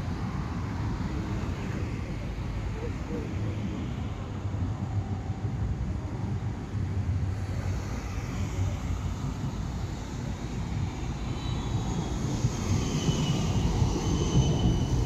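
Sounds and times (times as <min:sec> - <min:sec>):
tram passing by: 0:00.0 - 0:15.0.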